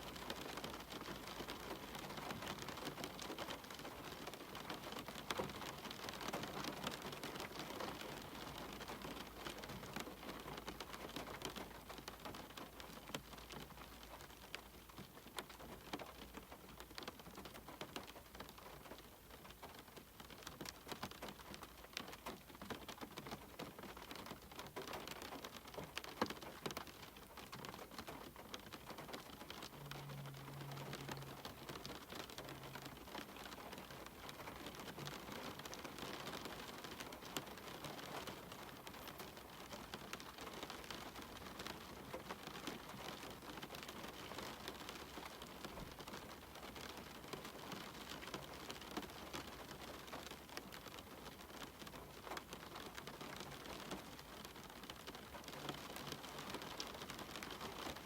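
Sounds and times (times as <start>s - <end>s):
rain on a window: 0.0s - 58.0s
raindrops ticking: 0.0s - 58.0s.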